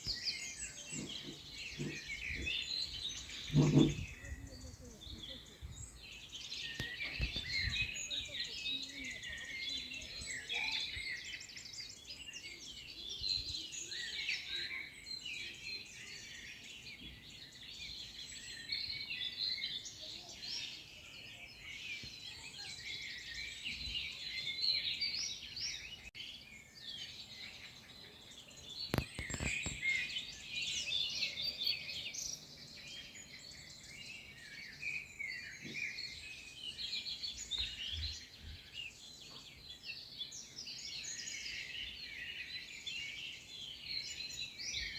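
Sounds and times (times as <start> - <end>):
songbirds chorus: 0.0 - 44.9.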